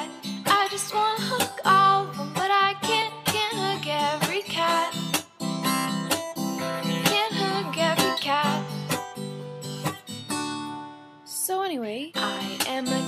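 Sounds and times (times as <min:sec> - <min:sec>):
acoustic guitar strumming: 0:00.0 - 0:11.4, 0:12.1 - 0:13.0.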